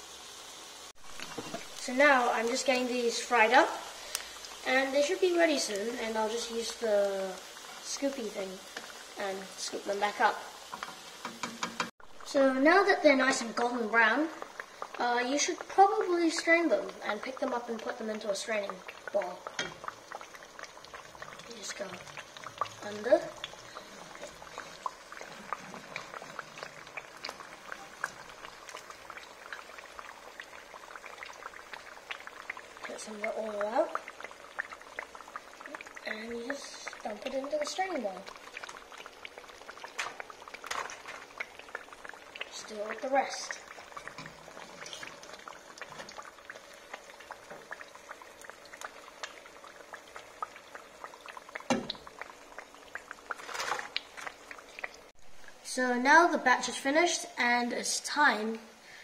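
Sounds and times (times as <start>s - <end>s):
oil sizzling in a wok: 0.0s - 59.0s
small crackling pops: 1.1s - 55.2s.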